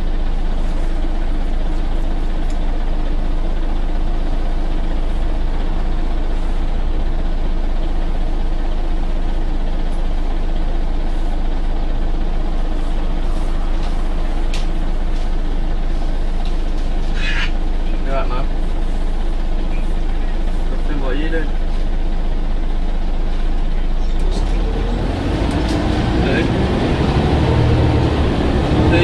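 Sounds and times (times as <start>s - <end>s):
bus diesel engine droning: 0.0s - 29.0s.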